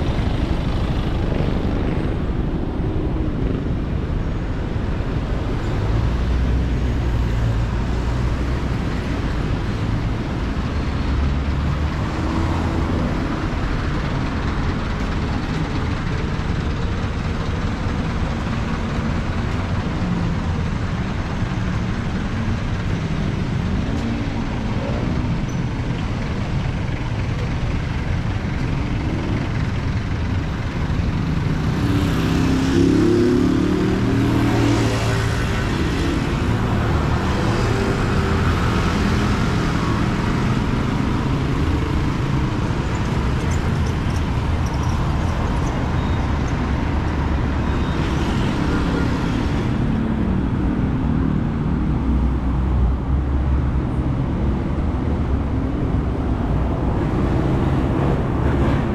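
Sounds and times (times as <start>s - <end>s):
road traffic engines humming: 0.0s - 58.9s.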